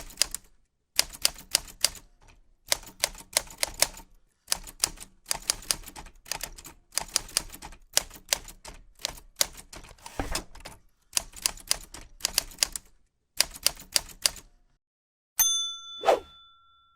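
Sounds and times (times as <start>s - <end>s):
typewriter keys clicking: 0.0s - 10.0s, 10.6s - 14.4s.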